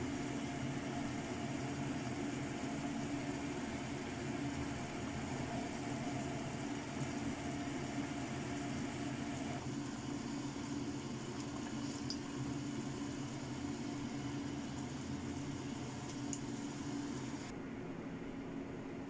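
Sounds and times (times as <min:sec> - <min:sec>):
water boiling in a wok: 0:00.0 - 0:17.5.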